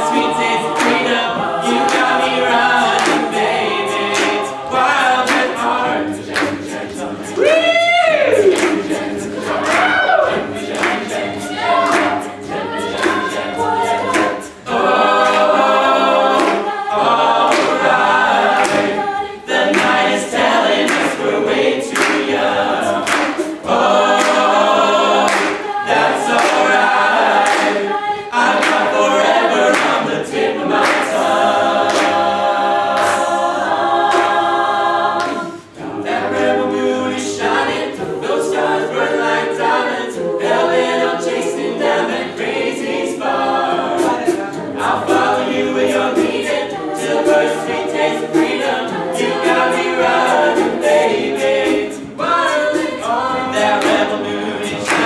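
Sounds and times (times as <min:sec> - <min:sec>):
group singing backing harmonies: 0:00.0 - 0:55.0.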